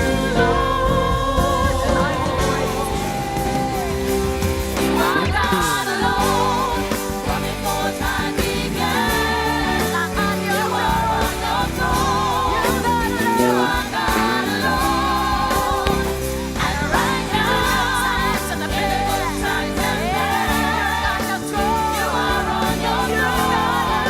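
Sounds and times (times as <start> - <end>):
band accompaniment with bass: 0.0 - 24.0
gospel singing with vibrato: 0.0 - 24.0.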